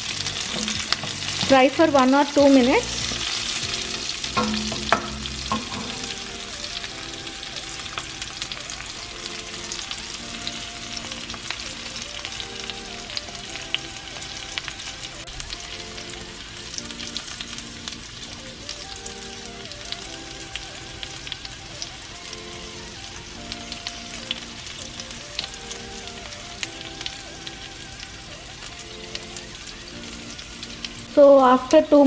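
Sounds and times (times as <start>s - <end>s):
spices sizzling in hot oil: 0.0s - 32.0s.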